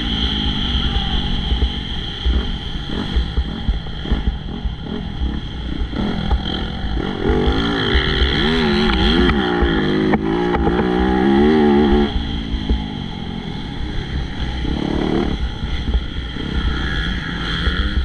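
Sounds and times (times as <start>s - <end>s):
motocross bike engines racing: 0.0s - 18.0s
motorbike engine revving: 0.0s - 18.0s.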